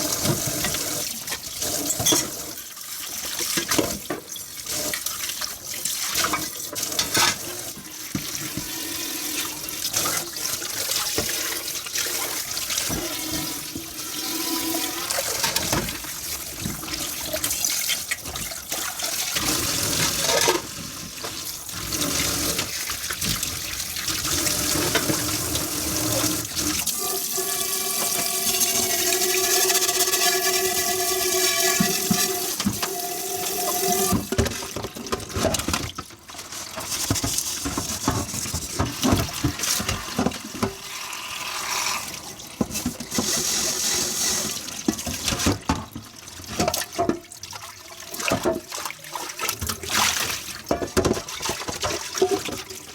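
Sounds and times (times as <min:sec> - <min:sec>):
tap water running into sink: 0:00.0 - 0:52.9.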